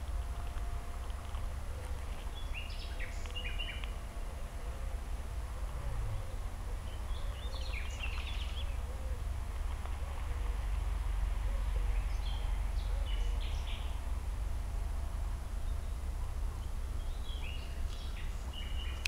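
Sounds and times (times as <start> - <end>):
songbirds chirping: 0.0 - 19.0
steady low rumble: 0.0 - 19.0.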